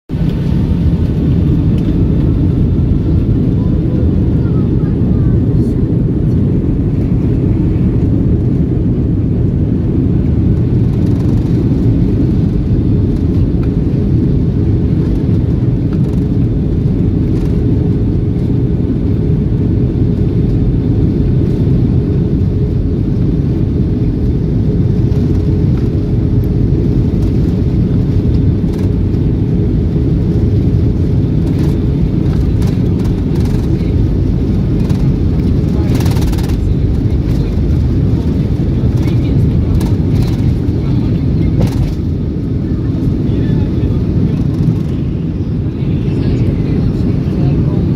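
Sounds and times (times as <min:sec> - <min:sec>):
jet engines rumbling: 0:00.1 - 0:47.9.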